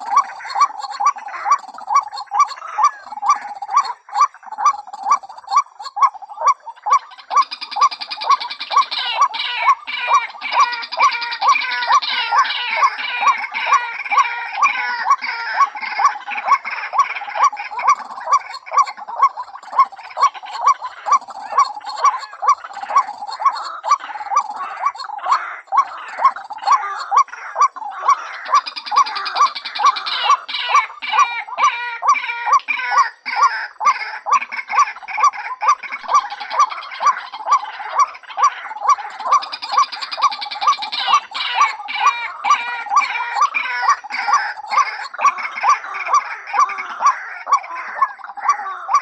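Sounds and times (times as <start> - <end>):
chatter of higher bird calls: 0.0 - 49.0
waterhen calling repeated notes: 0.0 - 49.0.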